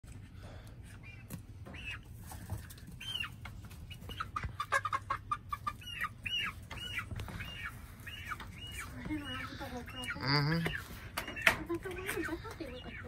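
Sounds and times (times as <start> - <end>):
chicks peeping: 0.6 - 13.0.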